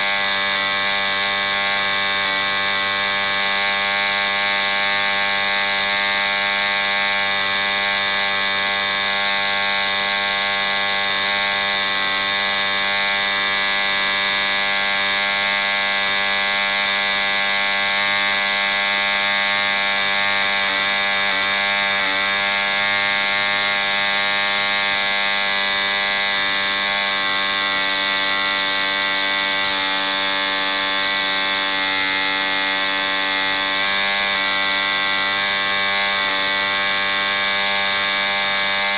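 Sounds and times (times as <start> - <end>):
model engine running with propeller: 0.0 - 38.9.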